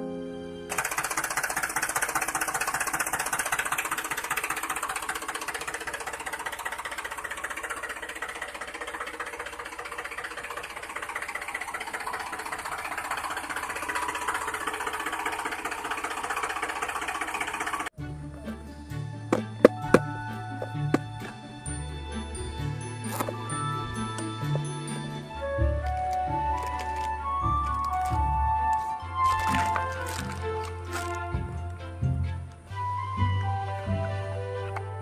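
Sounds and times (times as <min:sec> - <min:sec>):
tractor engine knocking clatter: 0:00.7 - 0:18.0, 0:19.2 - 0:32.6.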